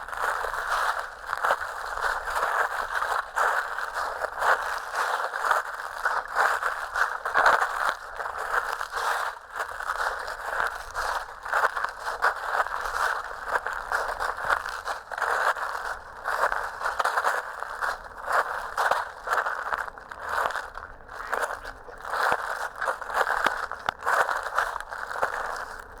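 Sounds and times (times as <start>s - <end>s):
footsteps crunching dry leaves: 0.0s - 26.0s.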